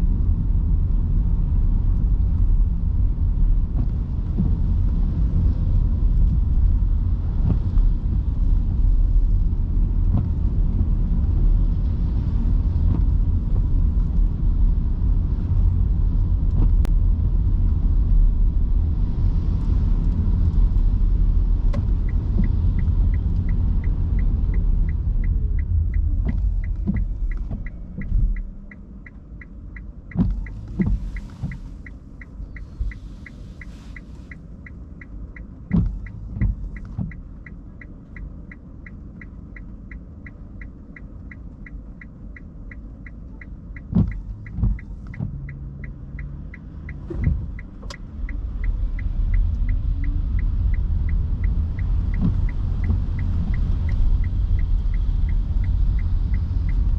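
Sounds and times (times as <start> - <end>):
turn signal ticking: 0.2 - 56.9.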